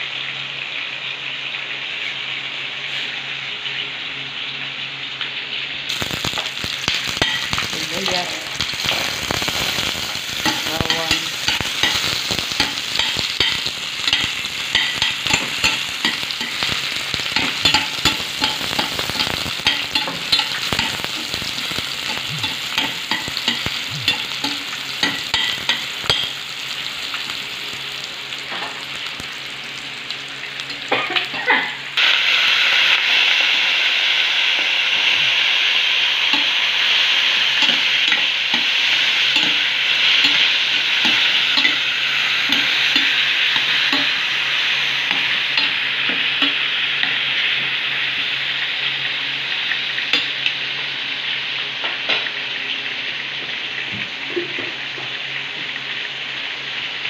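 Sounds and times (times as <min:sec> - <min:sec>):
loud steady sizzle: 0:00.0 - 0:57.0
onions frying in oil: 0:00.0 - 0:57.0.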